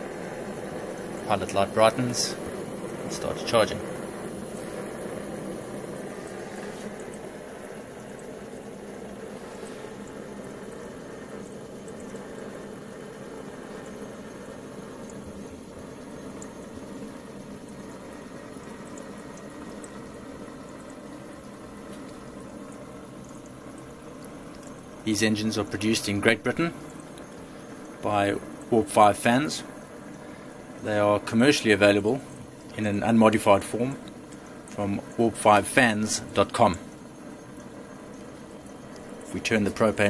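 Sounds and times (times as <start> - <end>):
engine hiss and whir: 0.0 - 40.0
faint steady hum: 0.0 - 40.0.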